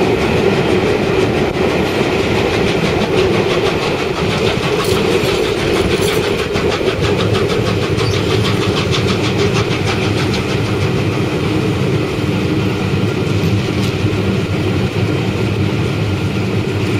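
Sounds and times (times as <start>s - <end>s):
steam train rumbling on rails: 0.0s - 16.9s.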